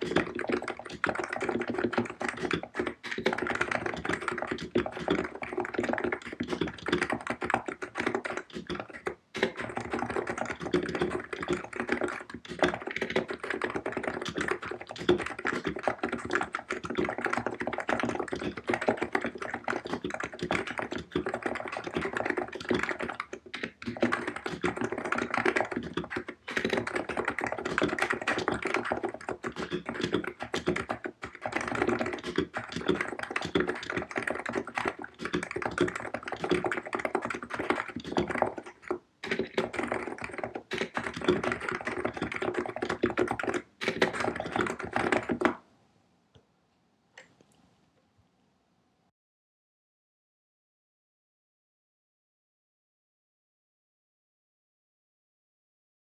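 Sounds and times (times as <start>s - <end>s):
fast typing on keyboard: 0.0s - 45.6s.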